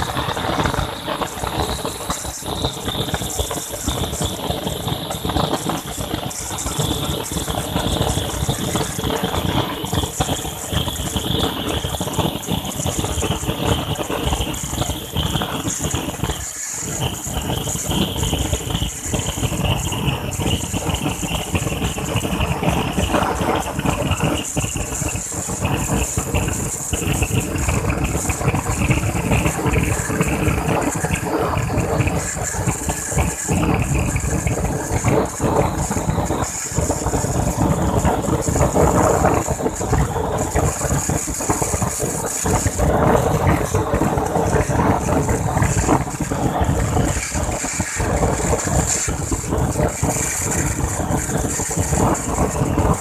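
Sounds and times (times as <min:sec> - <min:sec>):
cutting torch hissing and crackling: 0:00.0 - 0:53.0.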